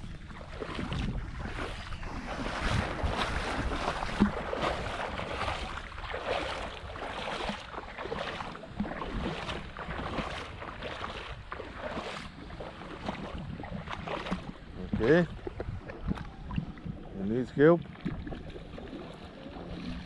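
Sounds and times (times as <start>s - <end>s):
seawater sloshing and splashing: 0.0s - 20.0s
wind noise on microphone: 0.0s - 20.0s.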